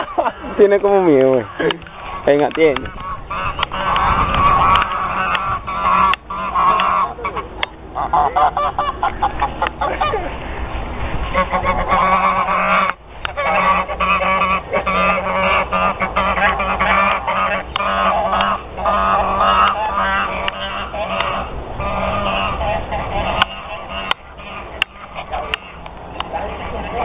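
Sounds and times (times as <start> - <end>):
geese honking: 0.0 - 10.4, 11.1 - 27.0.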